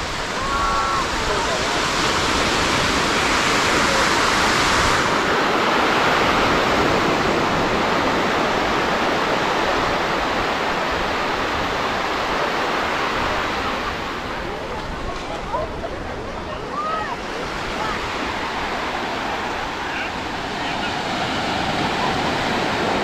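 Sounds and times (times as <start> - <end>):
rush of moving water: 0.0 - 23.0.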